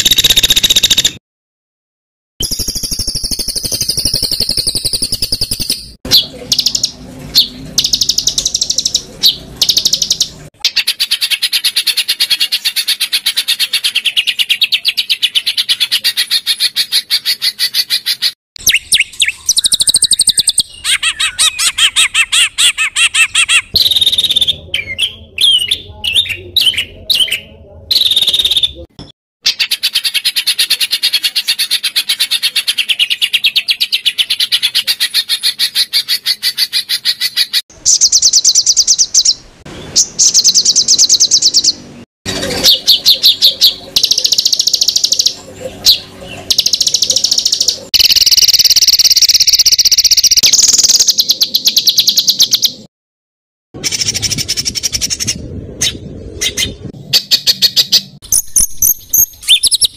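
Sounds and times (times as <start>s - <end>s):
songbird harsh chattering calls: 2.4s - 27.4s, 29.5s - 52.8s.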